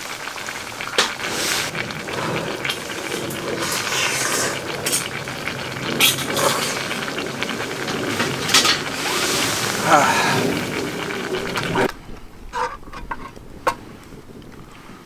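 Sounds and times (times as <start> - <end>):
steady sizzling hiss: 0.0 - 15.0.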